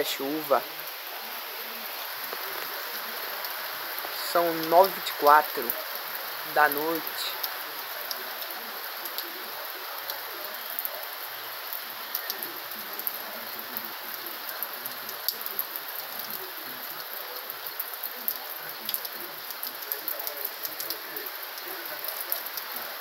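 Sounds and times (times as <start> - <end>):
raindrops tapping: 0.0 - 23.0
steady rain hiss: 0.0 - 23.0.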